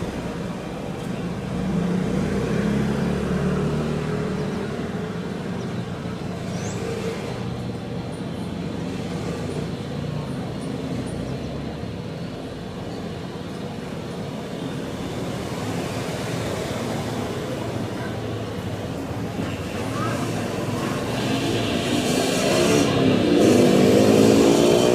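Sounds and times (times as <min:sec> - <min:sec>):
traffic-like noise: 0:00.0 - 0:24.9.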